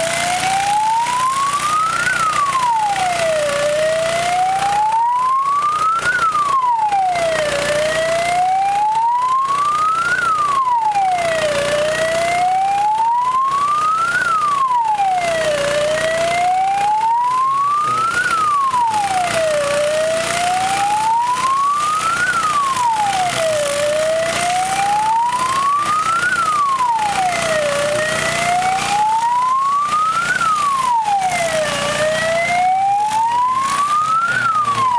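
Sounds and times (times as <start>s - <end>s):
fire engine siren wailing: 0.0s - 34.9s.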